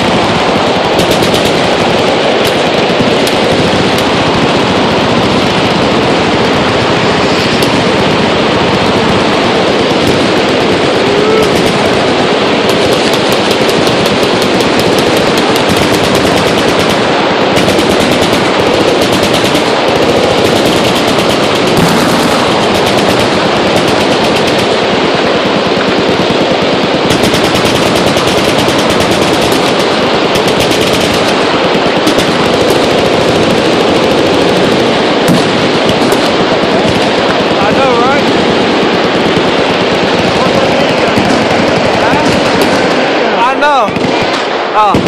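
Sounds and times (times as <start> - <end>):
machine guns firing: 0.0 - 45.0.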